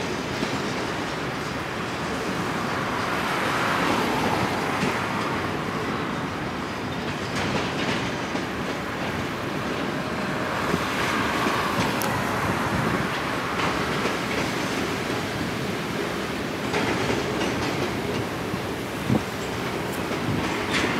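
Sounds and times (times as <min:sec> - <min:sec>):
steel wheels rumbling on rails: 0:00.0 - 0:20.9
wheels clicking over rail joints: 0:00.0 - 0:20.9.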